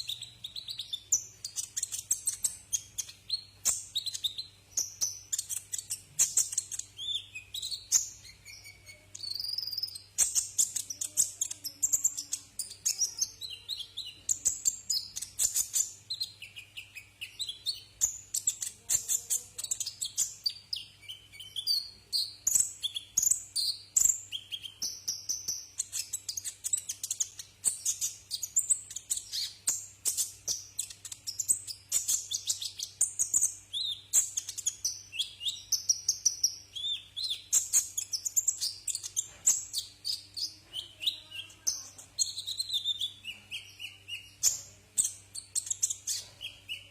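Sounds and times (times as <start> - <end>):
bird chirping and trilling: 0.0 - 46.9.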